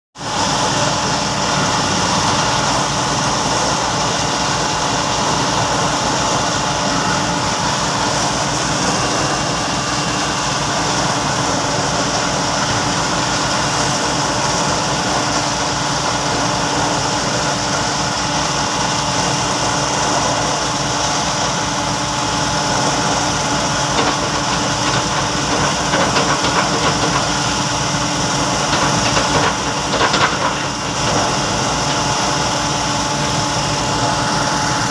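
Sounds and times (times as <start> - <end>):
diesel engines running: 0.2 - 34.9.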